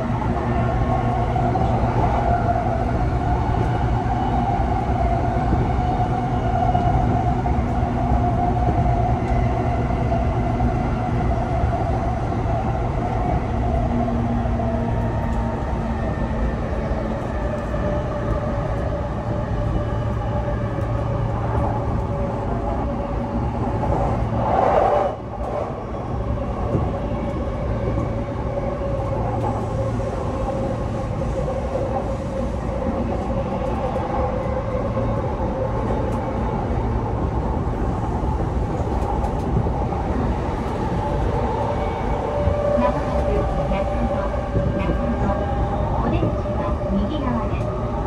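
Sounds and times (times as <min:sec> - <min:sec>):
wheels rumbling on rails: 0:00.0 - 0:48.0.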